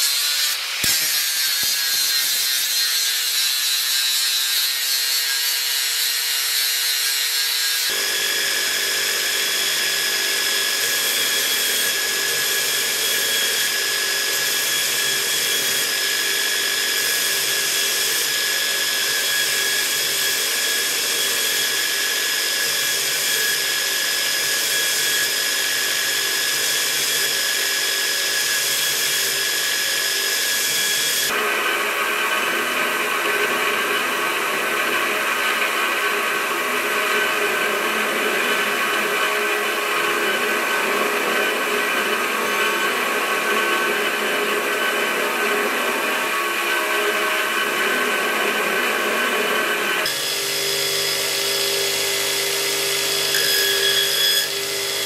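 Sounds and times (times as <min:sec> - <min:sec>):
angle grinder grinding metal: 0:00.0 - 0:55.0
belt grinder grinding metal: 0:00.0 - 0:55.0
belt grinder whining: 0:00.0 - 0:55.0.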